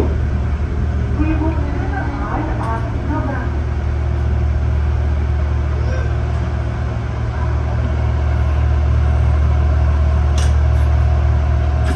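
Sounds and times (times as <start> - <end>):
train rumble inside carriage: 0.0 - 11.9.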